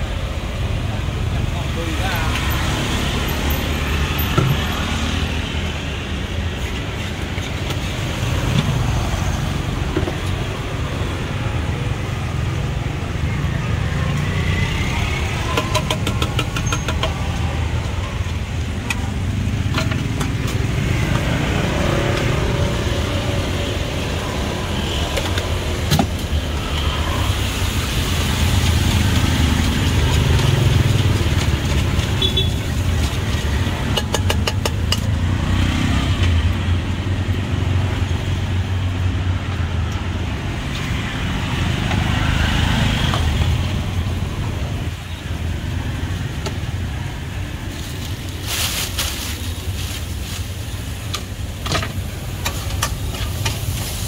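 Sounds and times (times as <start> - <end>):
street traffic rumbling: 0.0 - 54.0.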